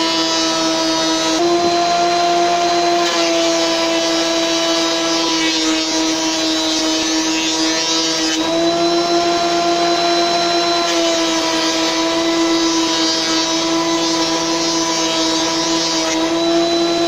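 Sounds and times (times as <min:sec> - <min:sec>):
thickness planer motor whine: 0:00.0 - 0:17.0.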